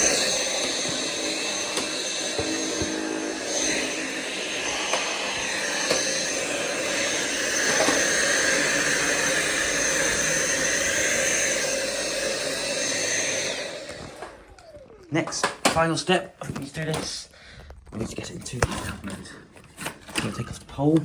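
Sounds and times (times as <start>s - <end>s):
vacuum cleaner running with whine: 0.0s - 16.9s.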